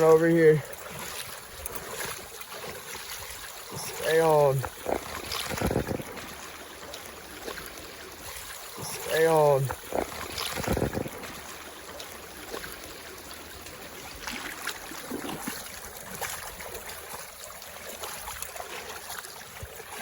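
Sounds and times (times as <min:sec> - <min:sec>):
creek water trickling: 0:00.0 - 0:20.0.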